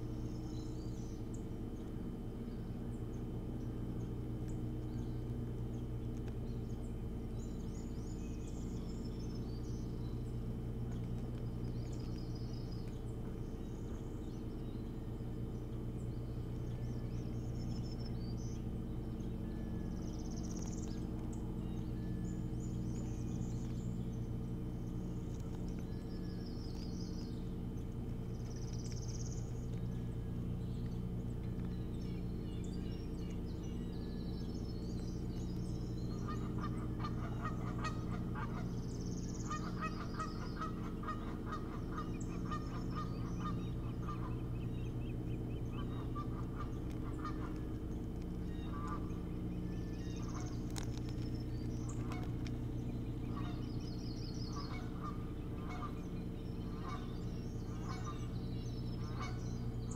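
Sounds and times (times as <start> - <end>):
bird calling rapid repeated notes: 0.0 - 59.9
small birds chirping: 0.0 - 59.9
steady low hum: 0.0 - 59.9.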